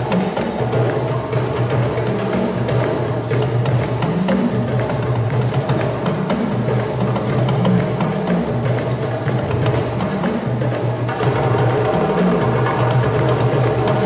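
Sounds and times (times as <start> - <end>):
hand drums playing fast rhythm: 0.0 - 14.0.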